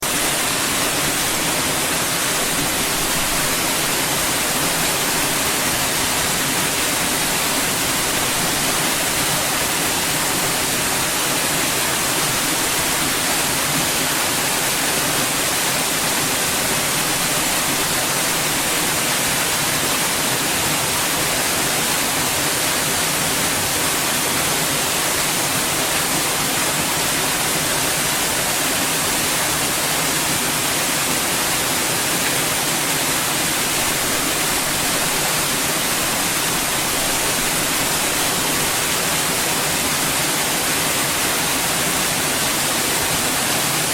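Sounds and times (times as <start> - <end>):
white noise hiss: 0.0 - 43.9.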